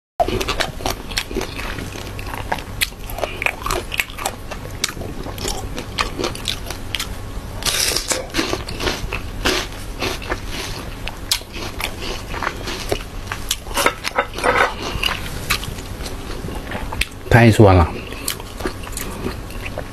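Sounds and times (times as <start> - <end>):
crunching bites and chewing: 0.2 - 17.2, 18.0 - 19.9.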